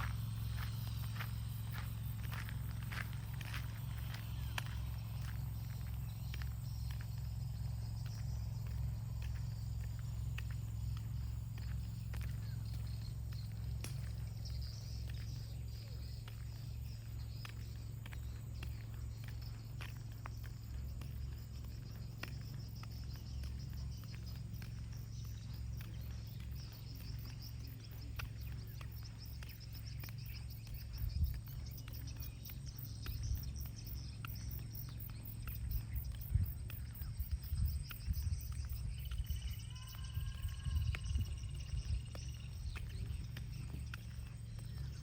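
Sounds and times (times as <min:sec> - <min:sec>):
crickets chirring: 0:00.0 - 0:45.0
footsteps on a path: 0:00.0 - 0:45.0
wind rumbling on microphone: 0:00.0 - 0:45.0.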